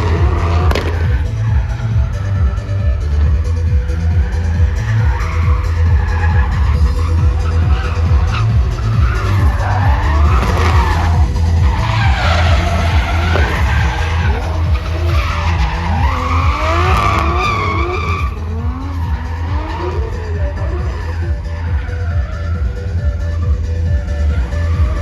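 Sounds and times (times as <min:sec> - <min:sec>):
car engine revving: 0:00.0 - 0:25.0
music with bass beat: 0:00.0 - 0:25.0
tyres screeching: 0:00.0 - 0:25.0.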